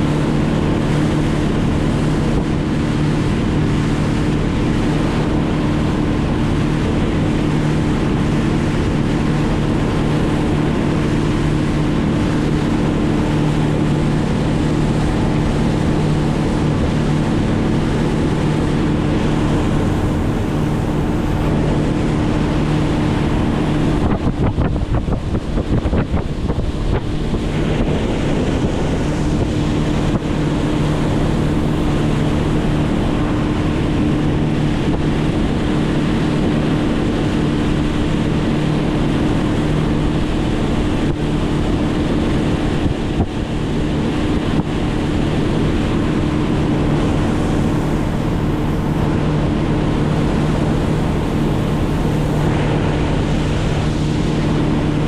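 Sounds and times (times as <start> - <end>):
motor running steadily: 0.0 - 55.0
wind on microphone: 0.0 - 55.0.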